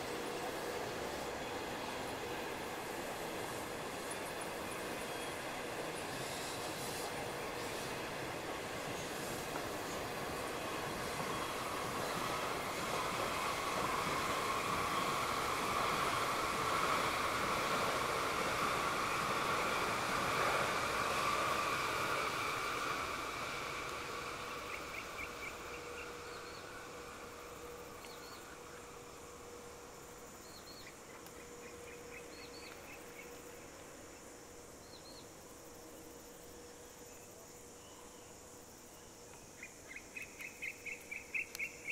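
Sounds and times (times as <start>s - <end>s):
insects and birds chirping: 0.0s - 41.9s
train rumbling past: 0.0s - 41.9s.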